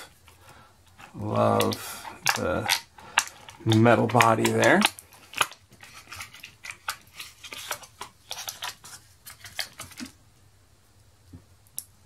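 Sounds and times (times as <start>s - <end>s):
packaging rustling: 0.1s - 10.2s.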